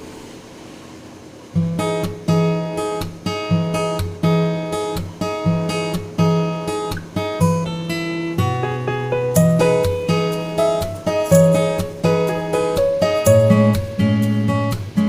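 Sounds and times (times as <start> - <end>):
acoustic guitar strumming: 1.6 - 15.0.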